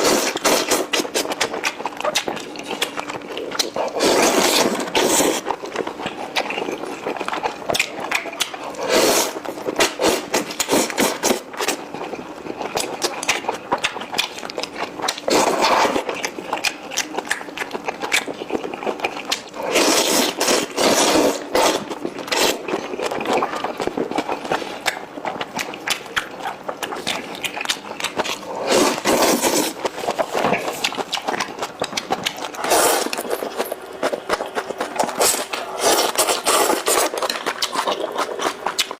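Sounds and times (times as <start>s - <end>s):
wet chewing: 0.0s - 38.9s.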